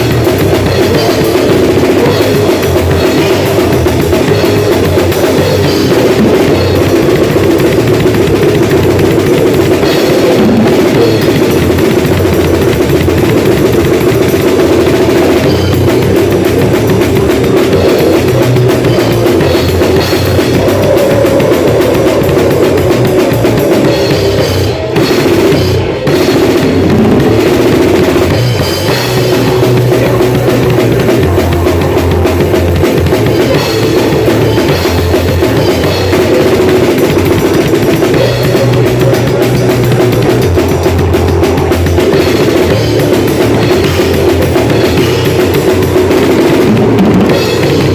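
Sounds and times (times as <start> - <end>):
drum kit playing loudly: 0.0 - 47.9.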